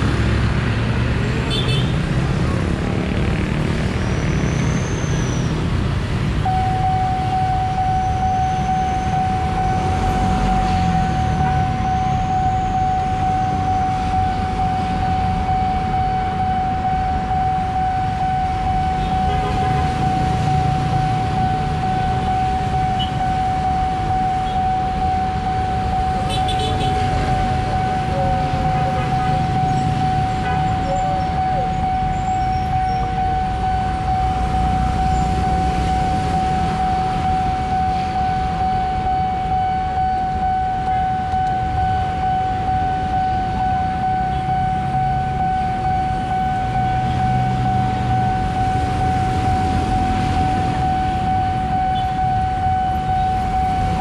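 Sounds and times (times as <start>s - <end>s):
level-crossing warning tone: 0.0s - 54.0s
road traffic noise: 0.0s - 54.0s.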